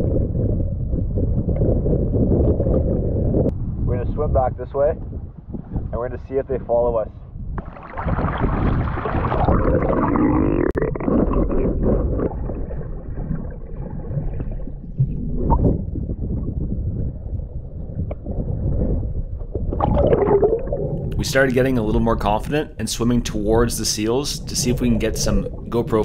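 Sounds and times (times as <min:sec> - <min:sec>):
water sloshing and gurgling: 0:00.0 - 0:03.5, 0:07.5 - 0:26.0.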